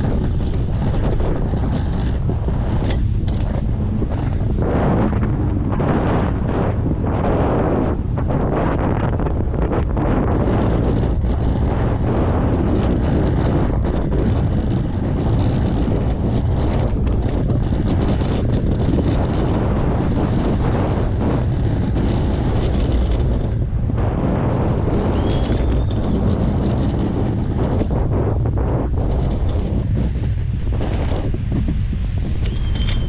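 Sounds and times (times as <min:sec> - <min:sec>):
boat engine running: 0:00.0 - 0:33.0
wind buffeting microphone: 0:00.0 - 0:33.0.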